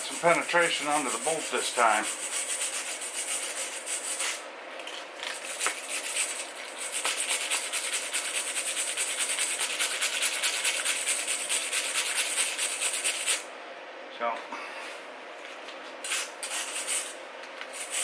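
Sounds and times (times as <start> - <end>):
wire brush scratching steel: 0.0 - 4.4, 5.3 - 13.4, 16.0 - 18.0.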